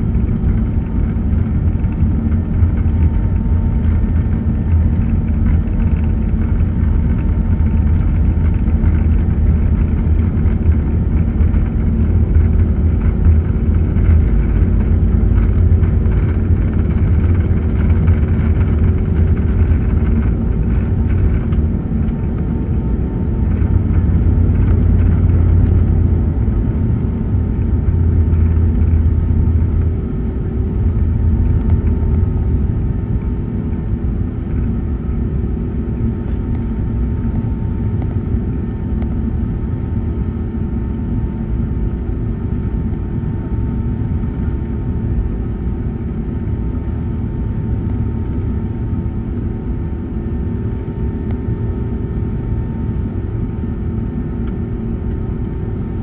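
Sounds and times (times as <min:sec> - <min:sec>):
deep jet engine rumble in cabin: 0:00.0 - 0:56.0
faint engine hum: 0:00.0 - 0:56.0.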